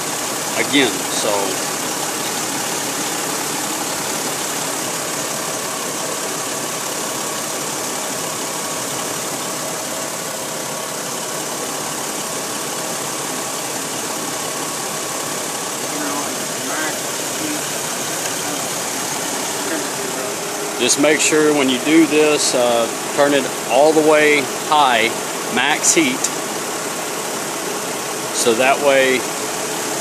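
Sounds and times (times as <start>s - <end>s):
car engine idling: 0.0s - 30.0s
faint steady whine: 0.0s - 30.0s
fan running: 0.0s - 30.0s.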